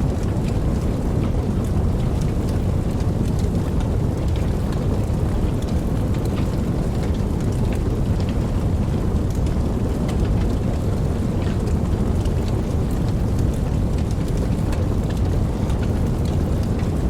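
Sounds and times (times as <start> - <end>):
steady rain: 0.0 - 17.0
raindrop ticks: 0.1 - 17.0.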